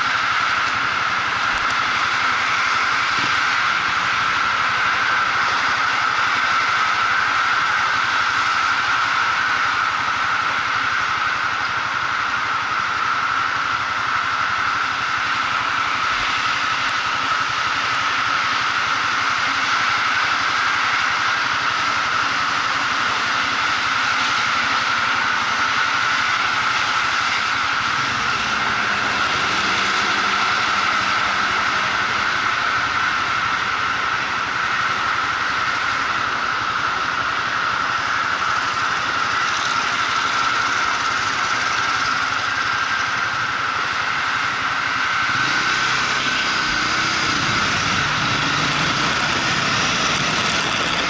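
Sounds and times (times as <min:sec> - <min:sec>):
motorcycle engine running: 0:00.0 - 0:51.0
road and wind noise: 0:00.0 - 0:51.0.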